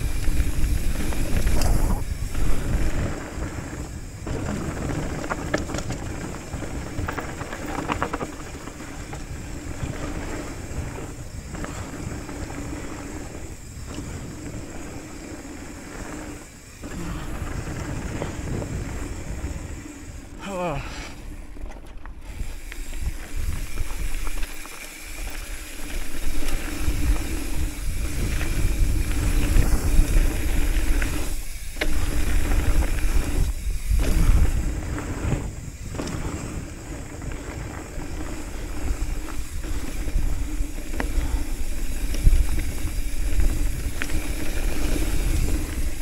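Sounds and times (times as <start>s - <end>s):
wind rushing on microphone: 0.0s - 24.5s, 25.8s - 46.0s
bike rattling: 0.0s - 46.0s
bike tyres rolling on gravel: 0.0s - 46.0s.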